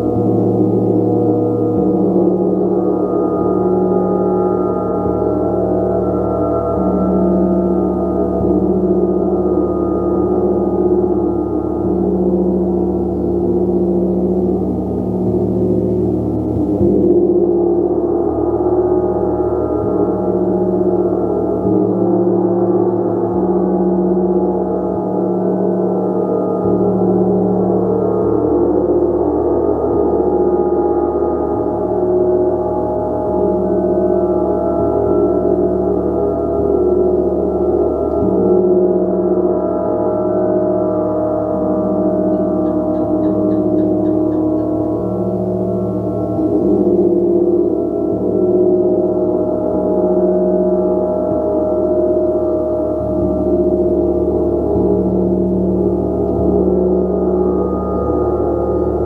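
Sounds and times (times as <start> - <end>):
gong played softly: 0.0 - 59.0.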